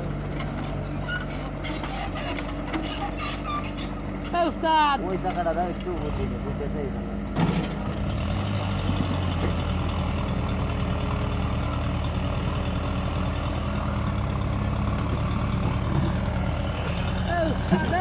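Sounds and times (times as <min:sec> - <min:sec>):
excavator diesel engine drone: 0:00.0 - 0:18.0.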